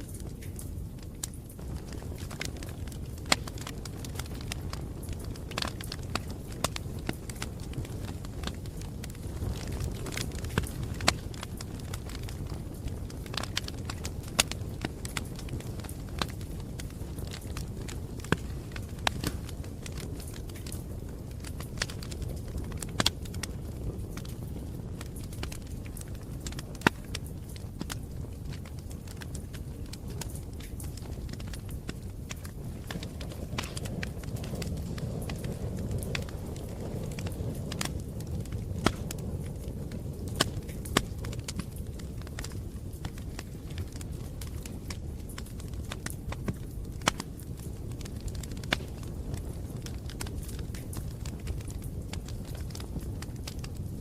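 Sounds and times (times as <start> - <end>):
campfire flames rumbling: 0.0 - 54.0
wood fire crackling: 0.0 - 54.0.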